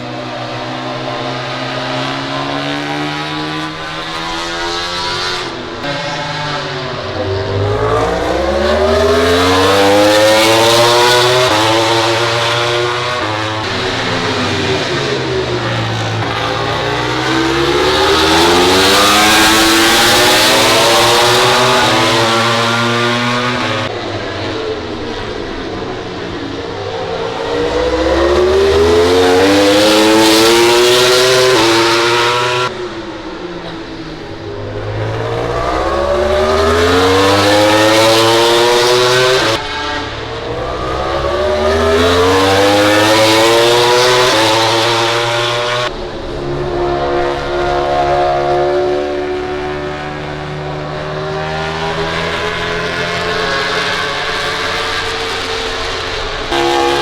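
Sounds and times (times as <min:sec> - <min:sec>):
racing motorcycles accelerating: 0:00.0 - 0:57.0.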